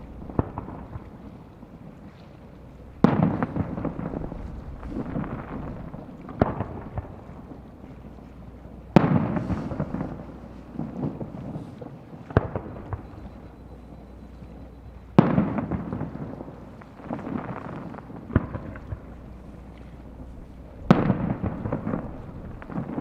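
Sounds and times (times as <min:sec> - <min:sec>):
fireworks booming: 0:00.0 - 0:01.4, 0:02.8 - 0:07.7, 0:08.9 - 0:14.0, 0:14.6 - 0:23.0
fireworks crackling: 0:00.0 - 0:01.4, 0:02.8 - 0:07.6, 0:08.9 - 0:13.5, 0:15.2 - 0:23.0.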